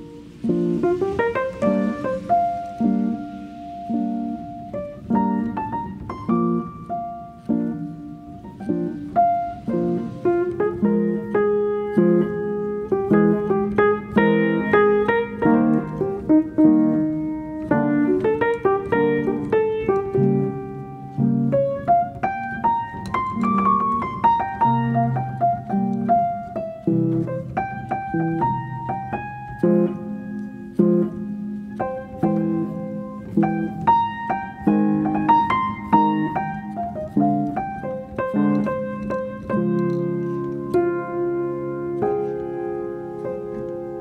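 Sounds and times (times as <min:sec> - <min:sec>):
piano melody over chords: 0:00.0 - 0:44.0.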